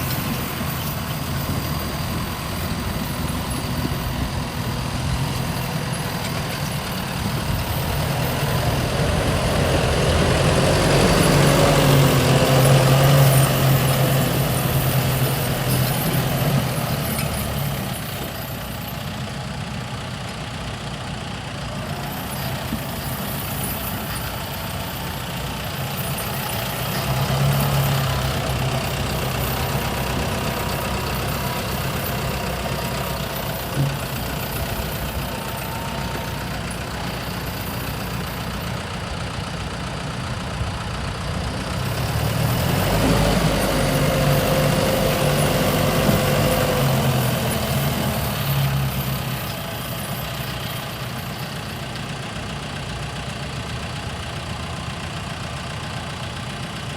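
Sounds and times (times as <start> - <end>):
tractor diesel engine idling: 0.0 - 56.9.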